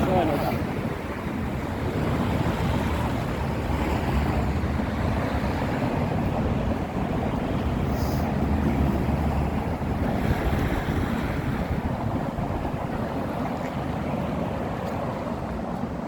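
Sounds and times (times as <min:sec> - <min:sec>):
city street noise hum: 0:00.0 - 0:16.0
wind buffeting the microphone: 0:00.0 - 0:16.0.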